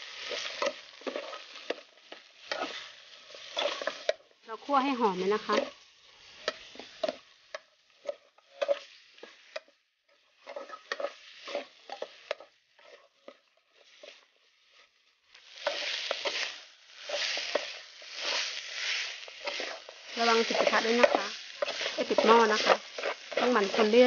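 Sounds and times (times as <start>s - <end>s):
light sizzle: 0.0s - 24.0s
metal spatula scraping pot: 0.2s - 4.2s, 5.4s - 14.9s, 15.5s - 24.0s.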